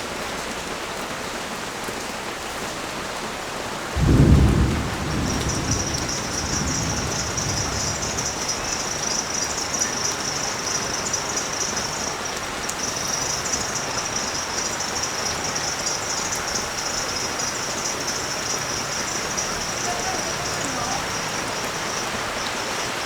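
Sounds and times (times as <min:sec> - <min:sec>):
rain falling on street: 0:00.0 - 0:23.0
thunder rumble: 0:03.9 - 0:22.8.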